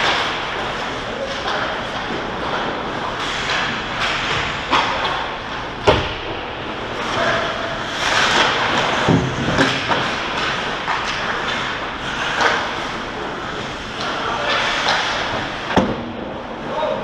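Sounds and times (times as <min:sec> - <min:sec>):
skates scraping on ice: 0:00.0 - 0:15.7
hockey sticks and puck clacking: 0:00.0 - 0:17.0.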